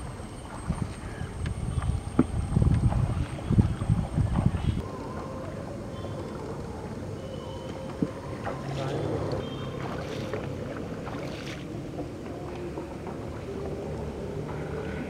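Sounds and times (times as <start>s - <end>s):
water washing along boat hull: 0.0s - 15.0s.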